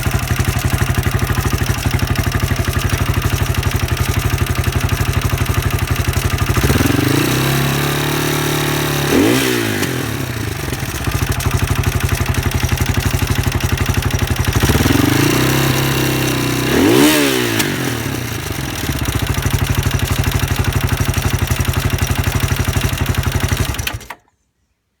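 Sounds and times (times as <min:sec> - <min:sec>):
motorcycle engine idling and revving: 0:00.0 - 0:24.2.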